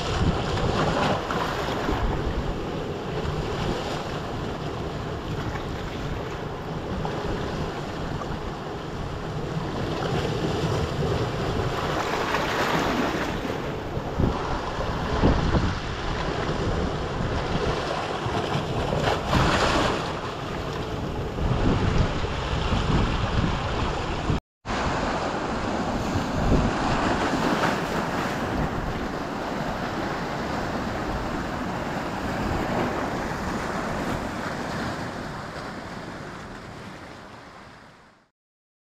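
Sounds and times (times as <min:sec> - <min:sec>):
ocean surf surging through rocks: 0:00.0 - 0:38.2.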